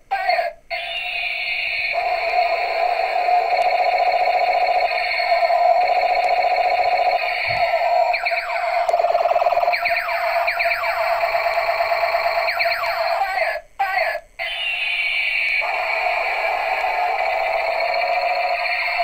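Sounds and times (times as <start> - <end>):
toy buzzing tone: 0.7 - 13.2, 14.4 - 19.0
slow falling whine: 0.7 - 13.4, 14.4 - 19.0.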